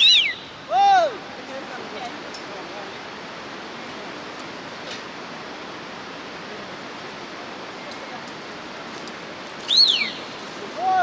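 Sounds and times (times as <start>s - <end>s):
fast river water rushing: 0.0s - 11.0s.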